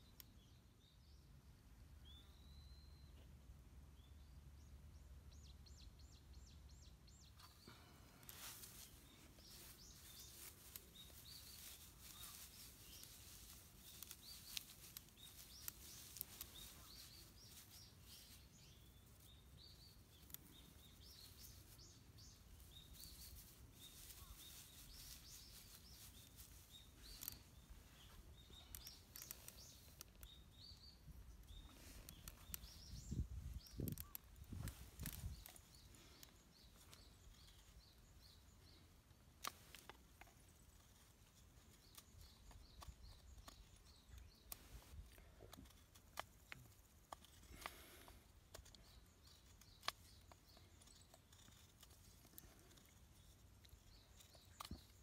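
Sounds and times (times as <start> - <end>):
small birds chirping: 0.0 - 55.0
dry wood shavings crackling: 7.3 - 55.0.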